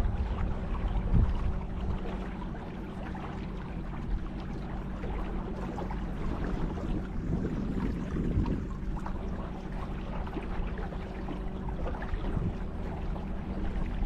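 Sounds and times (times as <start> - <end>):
low motor hum: 0.0 - 14.0
water washing around boat: 0.0 - 14.0.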